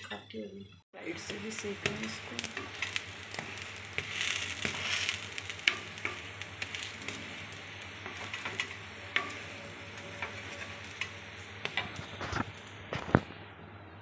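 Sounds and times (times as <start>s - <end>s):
batter sizzling in oil: 0.0s - 13.5s
spatula scraping a griddle: 1.8s - 13.2s.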